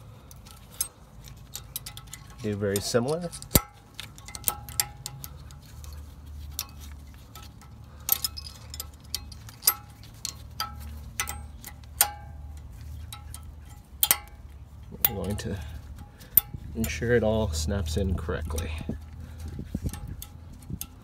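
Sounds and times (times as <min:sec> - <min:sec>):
steady low hum: 0:00.0 - 0:21.0
metal clips clicking and clinking: 0:00.2 - 0:21.0.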